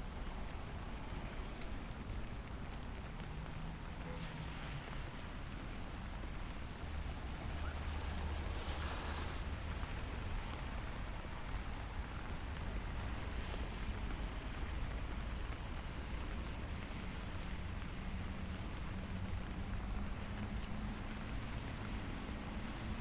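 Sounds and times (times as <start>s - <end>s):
light rain on street: 0.0s - 23.0s
low traffic rumble: 0.0s - 23.0s.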